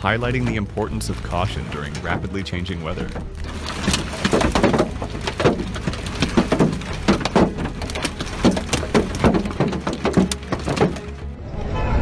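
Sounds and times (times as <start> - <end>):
rain and debris striking: 0.0 - 11.3.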